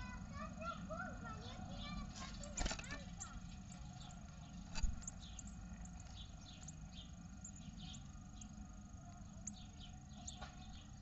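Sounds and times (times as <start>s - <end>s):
nestlings chirping: 0.0s - 11.0s.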